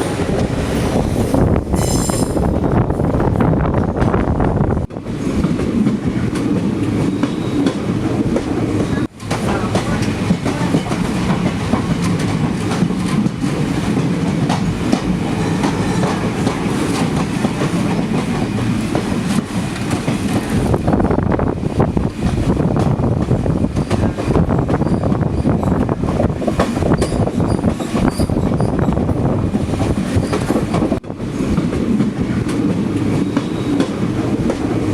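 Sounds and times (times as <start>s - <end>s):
train wheels clattering over rails: 3.7s - 34.9s.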